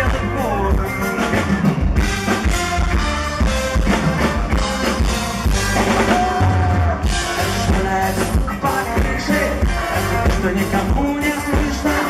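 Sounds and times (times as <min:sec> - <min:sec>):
drum kit beat: 0:00.0 - 0:12.0
live band playing instrumental: 0:00.0 - 0:12.0.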